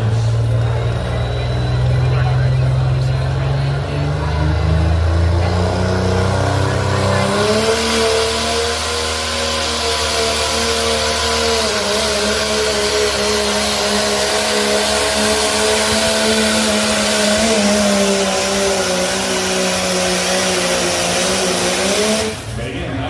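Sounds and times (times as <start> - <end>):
diesel truck engine at full throttle: 0.0 - 23.0.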